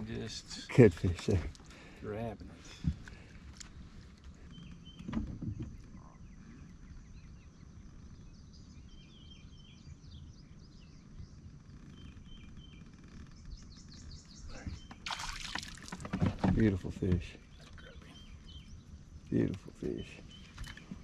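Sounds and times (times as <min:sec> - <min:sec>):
outdoor background noise: 0:00.0 - 0:21.0
songbirds chirping: 0:00.0 - 0:21.0.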